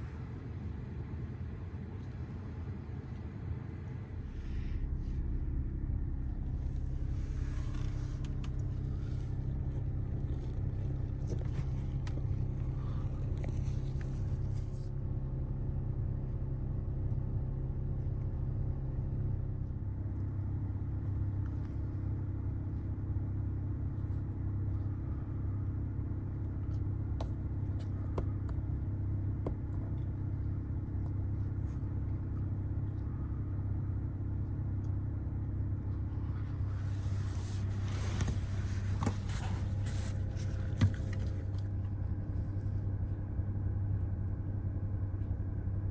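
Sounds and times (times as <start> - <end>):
car interior rumble: 3.9 - 45.9.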